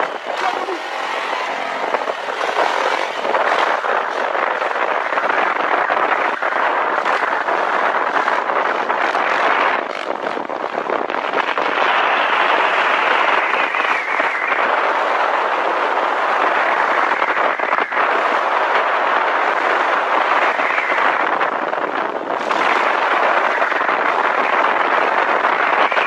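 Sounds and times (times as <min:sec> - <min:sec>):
motorcycle riding: 0:00.0 - 0:26.0.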